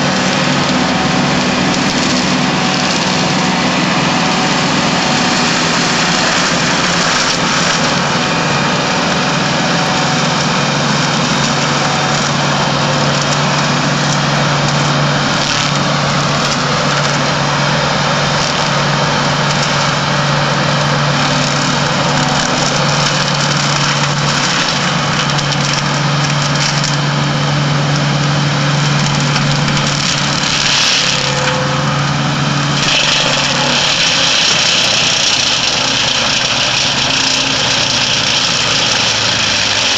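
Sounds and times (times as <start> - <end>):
mulcher grinding wood: 0.0 - 39.9
tractor engine hum: 0.0 - 39.9.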